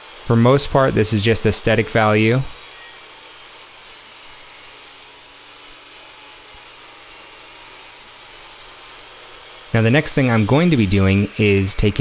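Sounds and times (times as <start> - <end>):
table saw cutting wood: 0.0 - 12.0.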